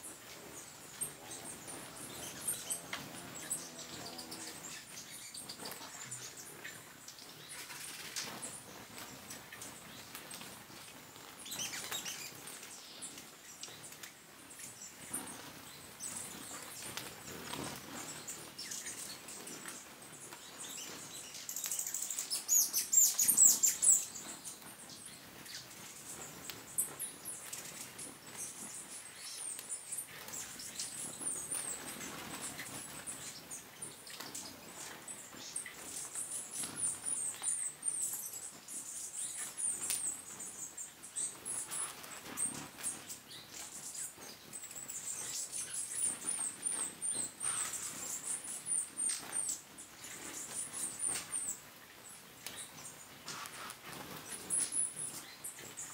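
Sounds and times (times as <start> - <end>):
hummingbirds rapid twittering: 0.1 - 55.9.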